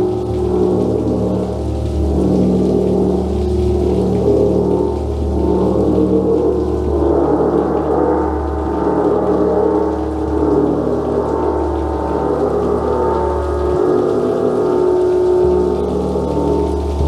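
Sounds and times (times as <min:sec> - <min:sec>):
gong sustained tones: 0:00.0 - 0:17.0.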